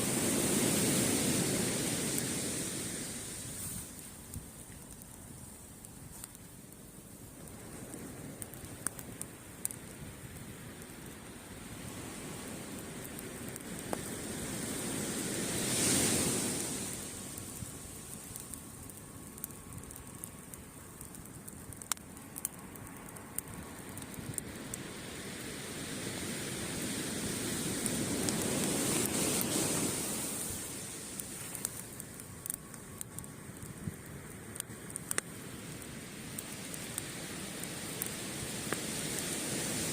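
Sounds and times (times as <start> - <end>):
waves breaking on a beach: 0.0 - 6.3, 7.0 - 19.2, 21.8 - 39.9
campfire crackling: 0.0 - 39.9.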